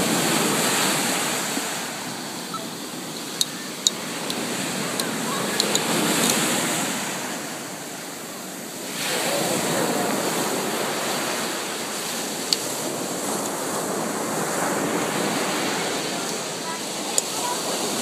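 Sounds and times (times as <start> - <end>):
surf washing onto beach: 0.0 - 18.0
wind on microphone: 0.0 - 18.0.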